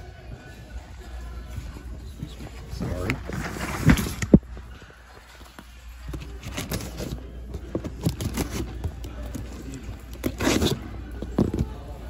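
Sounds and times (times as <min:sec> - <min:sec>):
low store hum: 0:00.0 - 0:12.0.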